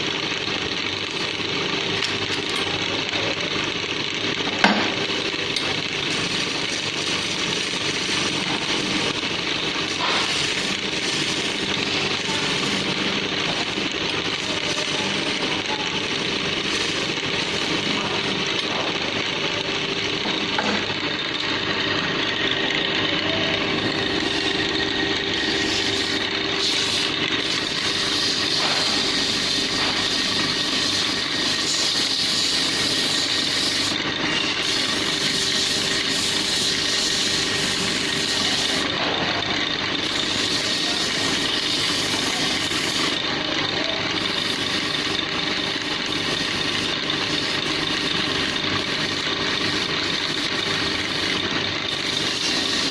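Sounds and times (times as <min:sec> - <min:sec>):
tool cutting wood rasping: 0:00.0 - 0:52.9
wood lathe humming: 0:00.0 - 0:52.9.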